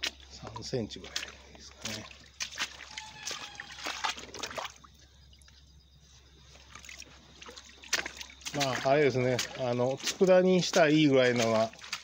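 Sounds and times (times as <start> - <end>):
small water splashes: 0.0 - 5.6, 6.5 - 12.0
shallow water trickling: 0.0 - 12.0.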